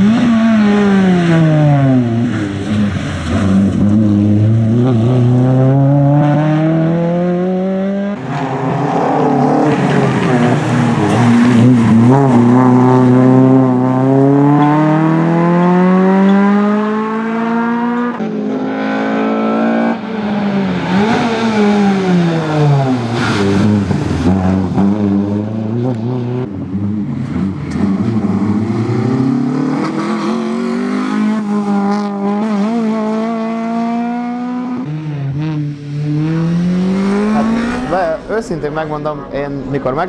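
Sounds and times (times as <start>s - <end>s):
car engine revving hard: 0.0s - 40.0s.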